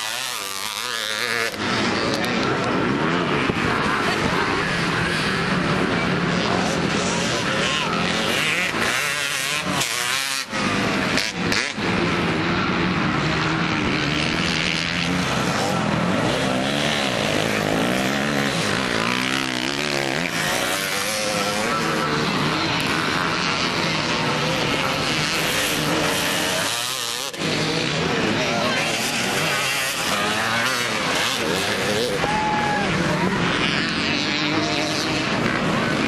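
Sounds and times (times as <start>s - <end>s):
dirt bike engines revving: 0.0s - 36.0s.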